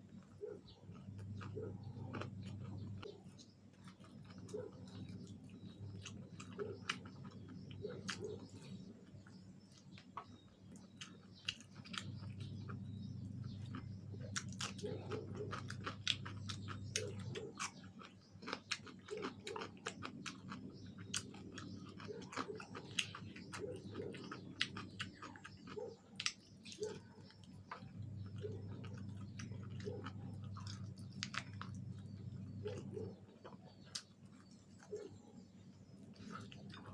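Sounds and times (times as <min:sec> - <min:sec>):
chewing crunchy fried chicken: 0:00.0 - 0:36.9.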